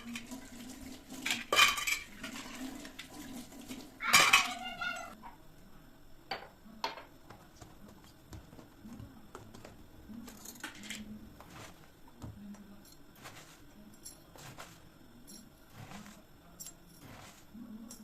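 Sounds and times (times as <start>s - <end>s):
kitchenware clinking and clattering: 0.0s - 5.4s, 6.3s - 7.2s, 9.3s - 18.0s.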